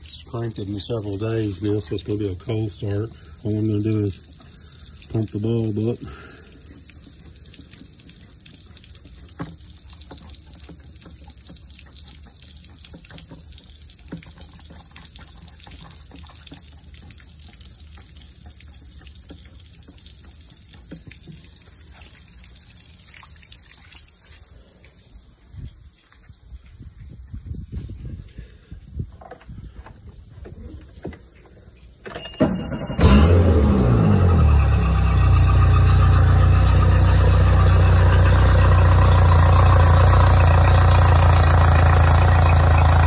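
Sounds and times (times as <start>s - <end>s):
water gushing from hose: 0.0s - 26.6s, 33.0s - 43.0s.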